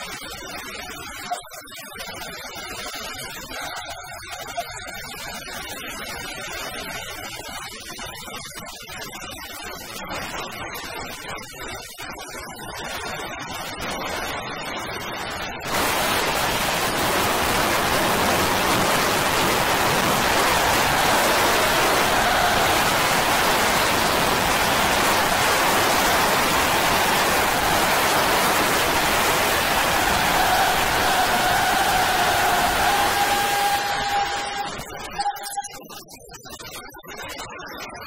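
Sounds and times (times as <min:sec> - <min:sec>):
dense steady synth noise hiss: 0:00.0 - 0:35.9.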